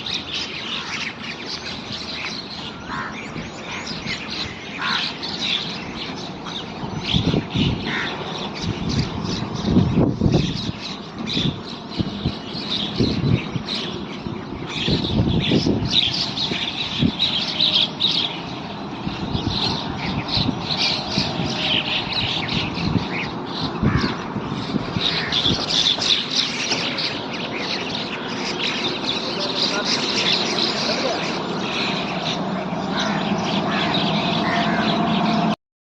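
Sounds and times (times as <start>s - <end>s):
birds chirping and squawking: 0.0s - 35.6s.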